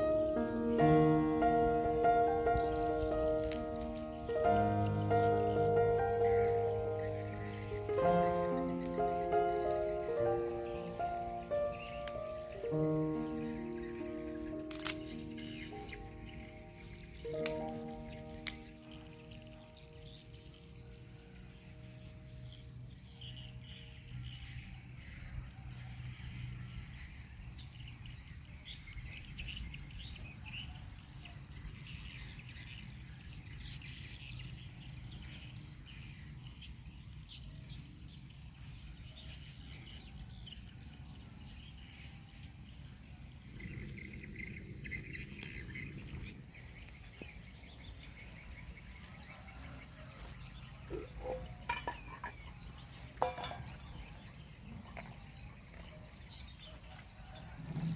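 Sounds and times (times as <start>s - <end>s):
birds chirping: 0.0s - 57.9s
insects calling: 0.0s - 57.9s.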